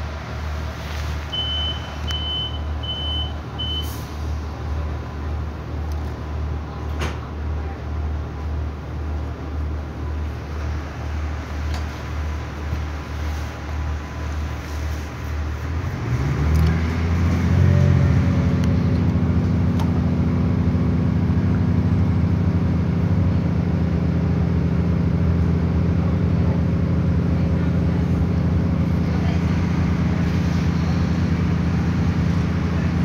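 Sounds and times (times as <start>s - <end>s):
train diesel engine drone: 0.0s - 33.0s.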